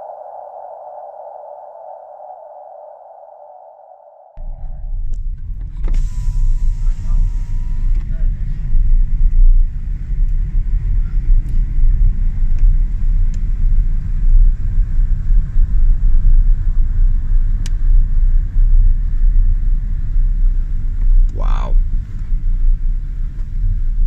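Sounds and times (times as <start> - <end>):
road and wind noise in car cabin: 4.4 - 24.0.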